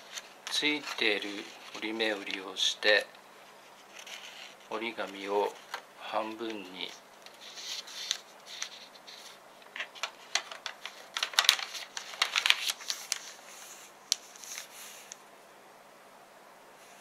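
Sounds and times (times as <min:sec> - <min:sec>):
paper rustling and crinkling: 0:00.0 - 0:15.2.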